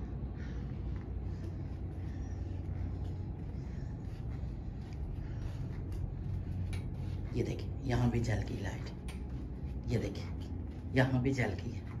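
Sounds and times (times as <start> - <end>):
low room tone hum: 0.0 - 12.0.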